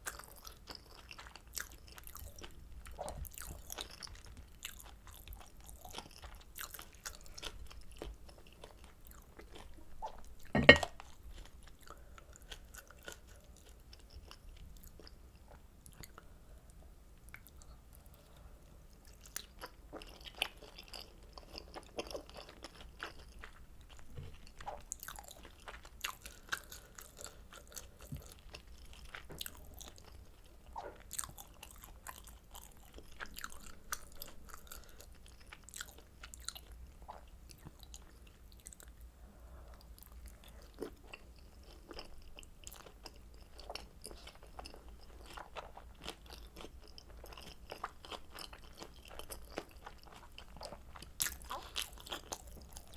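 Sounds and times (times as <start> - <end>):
chewing and biting food: 0.0 - 16.3, 19.0 - 39.0, 39.9 - 52.9.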